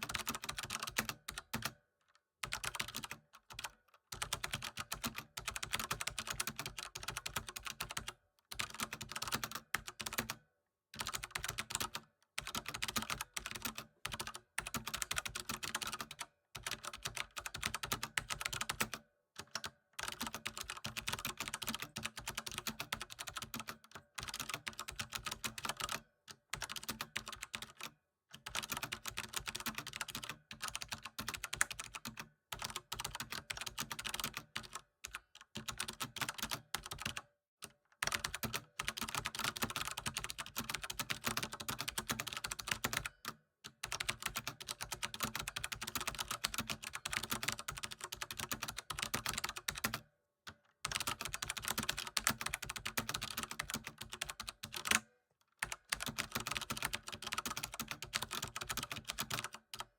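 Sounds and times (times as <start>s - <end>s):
computer keyboard typing: 0.0s - 1.8s, 2.4s - 10.4s, 11.0s - 37.2s, 38.0s - 50.1s, 50.8s - 59.9s.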